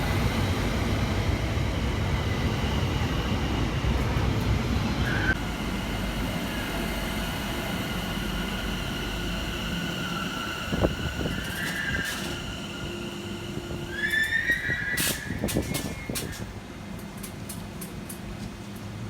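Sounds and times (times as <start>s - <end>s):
train traction motor whine: 0.0s - 19.0s.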